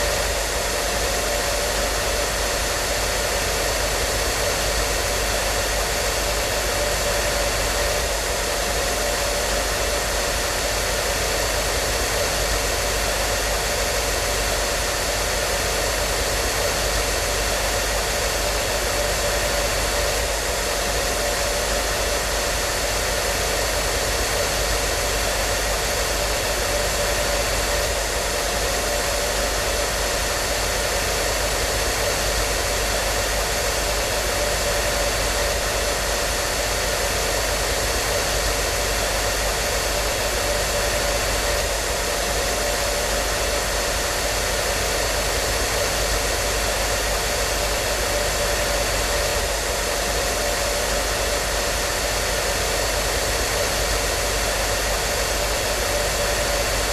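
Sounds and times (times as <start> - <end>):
faint steady whine: 0.0 - 56.9
hair dryer running: 0.0 - 56.9.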